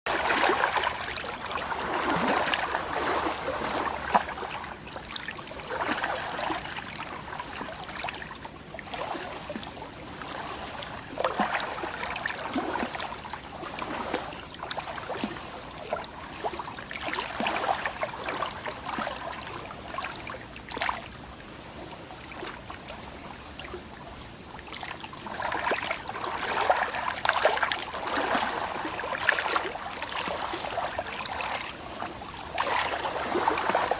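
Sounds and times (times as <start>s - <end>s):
water splashing and gurgling: 0.1s - 33.9s.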